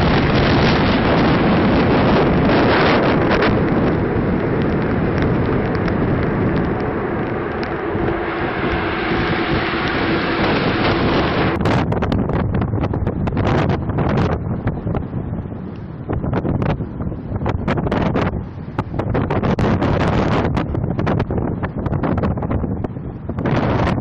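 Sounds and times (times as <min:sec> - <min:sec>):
choppy wind gusts: 0:00.0 - 0:24.0
storm wind buffeting microphone: 0:00.0 - 0:24.0.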